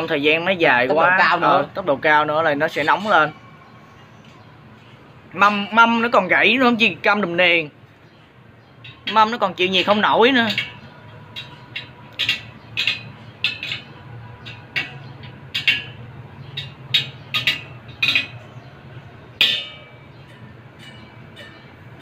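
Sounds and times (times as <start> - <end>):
metal spokes clinking: 0.0 - 3.5, 4.2 - 22.0.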